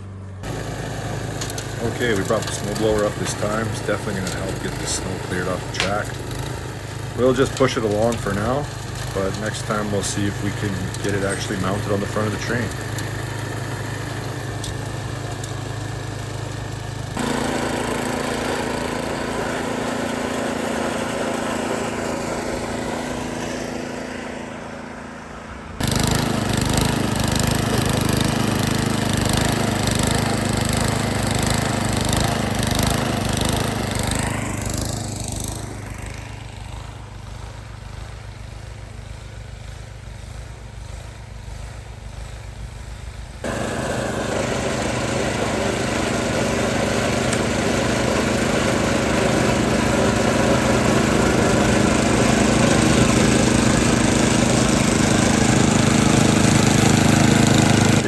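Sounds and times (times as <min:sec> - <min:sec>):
snow blower engine running: 0:00.0 - 0:58.0.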